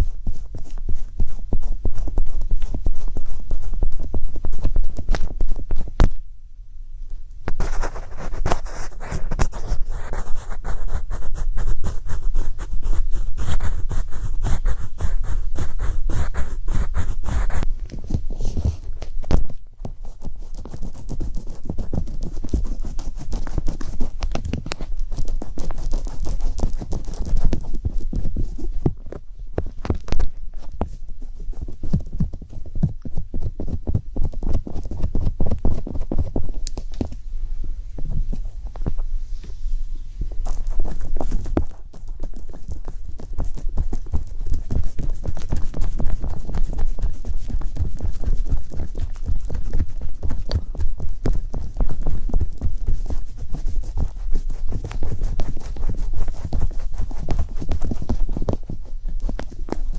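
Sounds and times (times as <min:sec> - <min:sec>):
tapping and scratching on object: 0:00.0 - 0:06.2, 0:07.4 - 0:37.2, 0:40.2 - 0:59.9.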